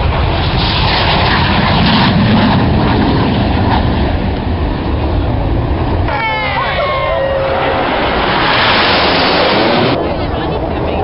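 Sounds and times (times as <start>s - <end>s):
aircraft flying past: 0.0s - 11.0s.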